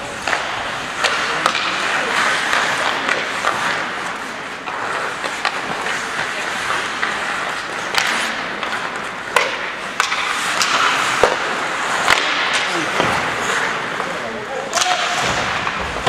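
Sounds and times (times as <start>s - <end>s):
hockey sticks and puck clacking: 0.0s - 16.0s
skates scraping on ice: 0.0s - 16.0s.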